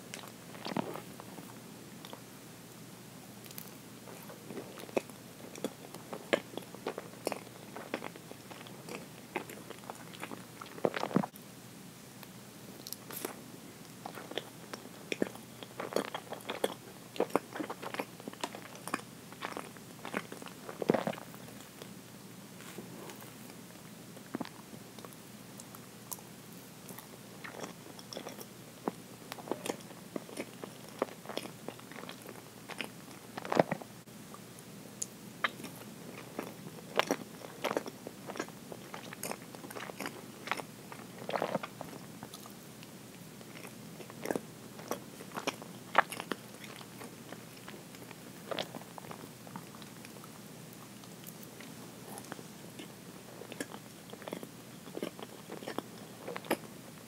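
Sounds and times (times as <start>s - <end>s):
chewing and biting cake: 0.1s - 2.3s, 3.4s - 11.4s, 12.8s - 22.0s, 24.2s - 33.9s, 35.4s - 56.7s.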